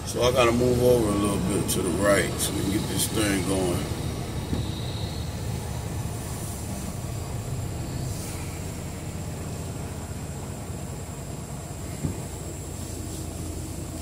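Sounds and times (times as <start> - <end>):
diesel truck engine rumbling: 0.0 - 14.0
faint hiss: 0.0 - 14.0.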